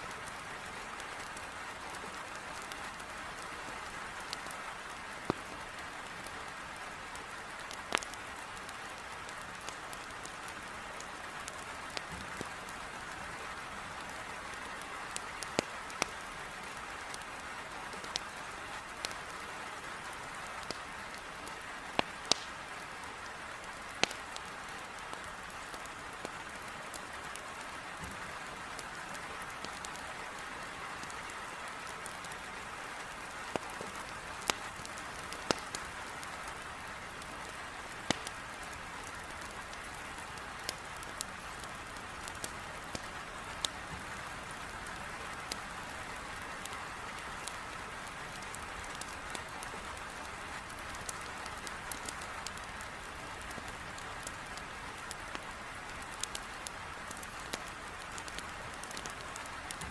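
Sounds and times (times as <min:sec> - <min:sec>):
heavy rain on a window: 0:00.1 - 0:59.9
wood fire crackling: 0:00.1 - 0:59.9.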